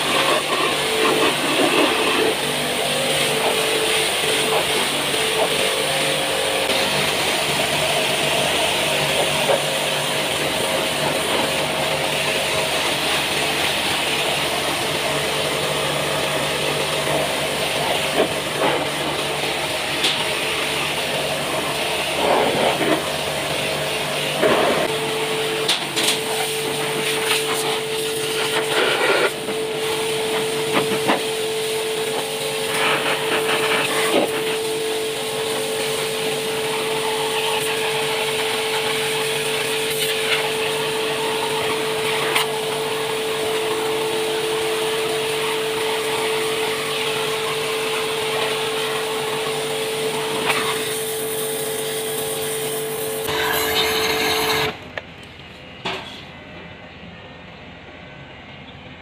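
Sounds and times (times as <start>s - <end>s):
water jet hissing: 0.0s - 54.8s
pressure washer humming: 0.0s - 56.9s.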